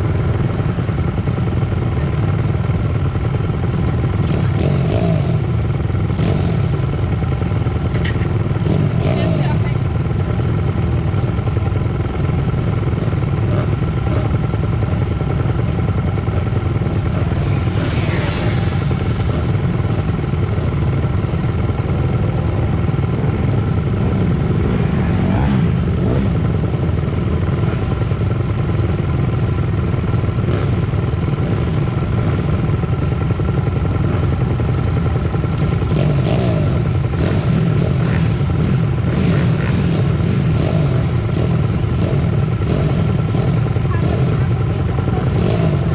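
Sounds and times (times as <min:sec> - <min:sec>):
pit bike engines racing: 0:00.0 - 0:45.9.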